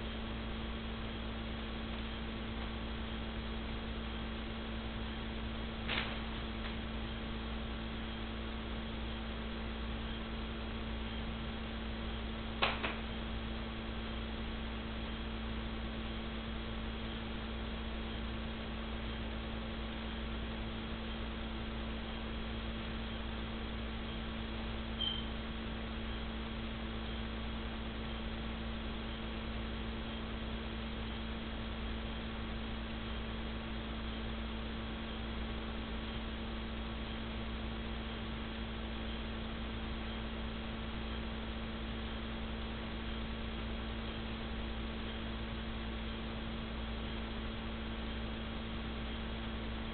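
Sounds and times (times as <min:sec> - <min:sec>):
electrical hum with hiss: 0:00.0 - 0:49.9.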